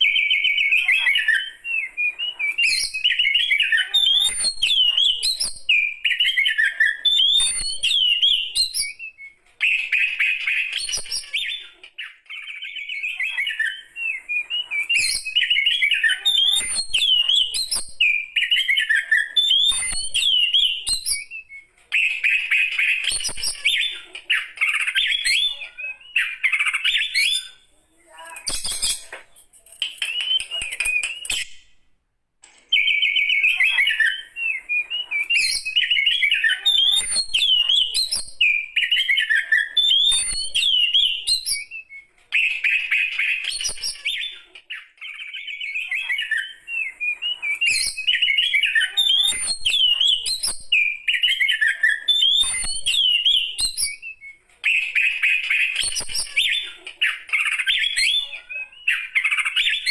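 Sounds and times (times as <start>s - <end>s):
bird singing varied whistles: 0.0s - 27.7s, 30.0s - 31.7s, 32.7s - 59.9s.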